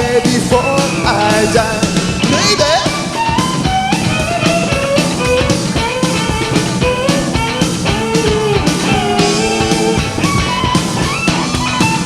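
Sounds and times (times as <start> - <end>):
bass: 0.0 - 12.0
drums: 0.0 - 12.0
electric guitar: 0.0 - 12.0
violin: 0.0 - 12.0.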